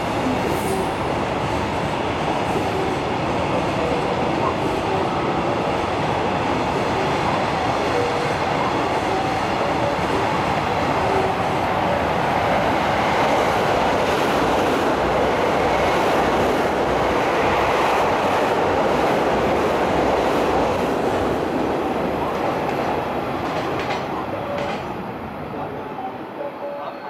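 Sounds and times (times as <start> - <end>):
train wheels rolling on rails: 0.0 - 26.4.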